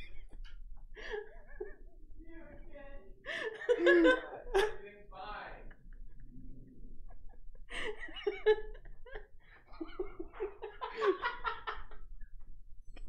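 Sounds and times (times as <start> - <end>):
people laughing: 0.0 - 2.6, 3.2 - 12.2.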